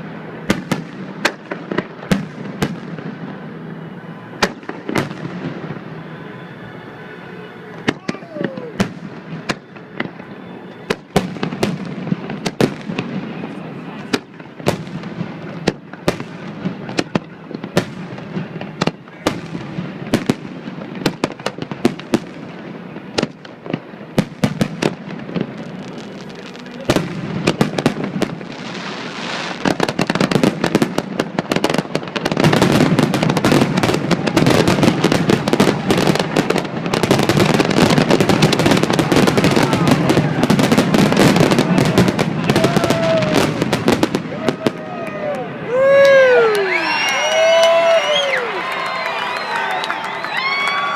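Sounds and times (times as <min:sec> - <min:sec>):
firework bangs: 0:00.0 - 0:50.9
firework crackling: 0:00.0 - 0:50.9.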